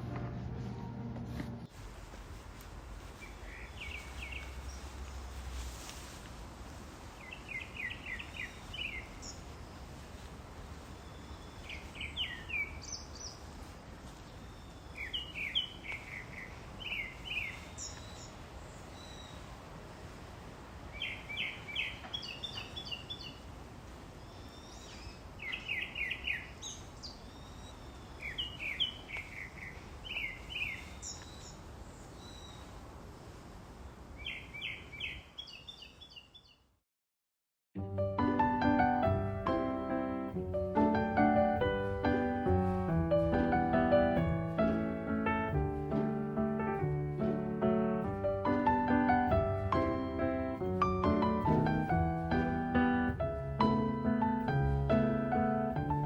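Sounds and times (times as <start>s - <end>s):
faint outdoor background: 0.0s - 36.8s, 37.8s - 56.0s
songbird chirping: 3.0s - 6.2s, 7.1s - 20.2s, 20.8s - 36.8s, 38.3s - 56.0s.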